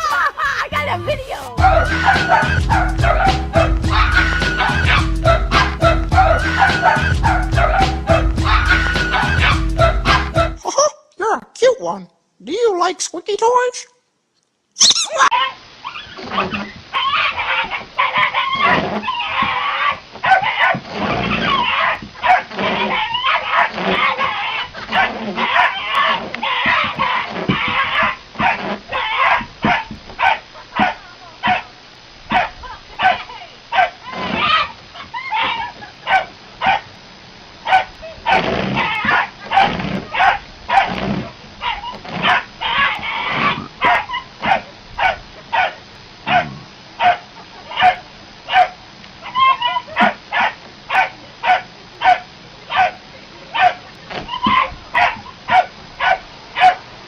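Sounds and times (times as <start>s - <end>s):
dog yipping: 1.6s - 10.3s, 14.8s - 31.7s, 32.3s - 36.9s, 37.7s - 41.0s, 41.6s - 53.0s, 53.6s - 56.8s.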